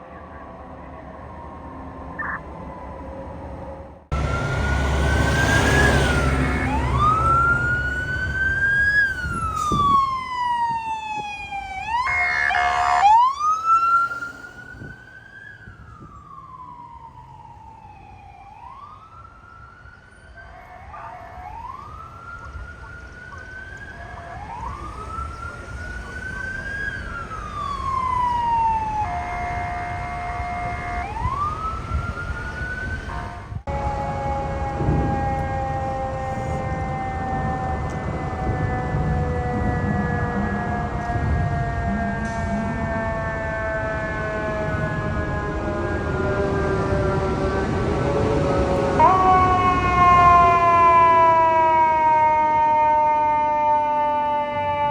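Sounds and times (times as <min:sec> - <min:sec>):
fire truck siren wailing: 0:00.0 - 0:54.9
truck engine rumbling: 0:00.6 - 0:18.0, 0:21.6 - 0:53.4.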